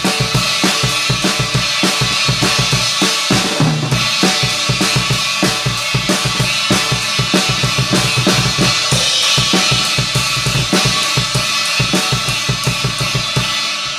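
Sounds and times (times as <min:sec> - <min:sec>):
cymbals: 0:00.0 - 0:13.9
rock drumming on drum kit: 0:00.0 - 0:13.9.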